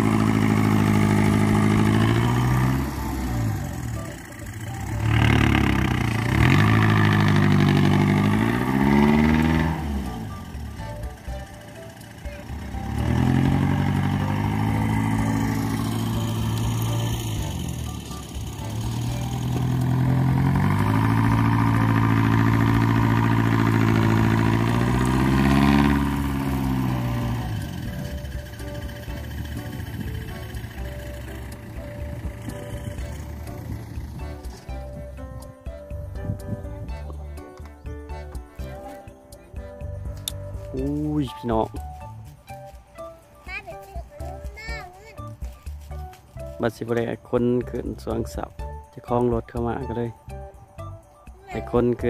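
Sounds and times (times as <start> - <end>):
truck engine revving: 0.0 - 44.5.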